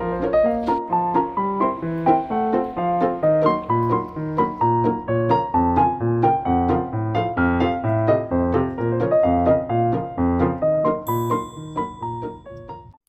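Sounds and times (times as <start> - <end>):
background piano music: 0.0 - 13.0.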